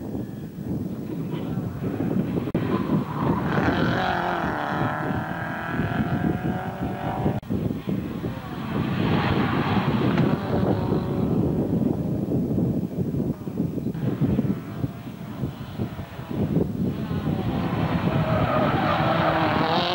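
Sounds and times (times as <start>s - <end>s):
race car engine passing at high revs: 1.3s - 12.4s, 14.0s - 19.9s.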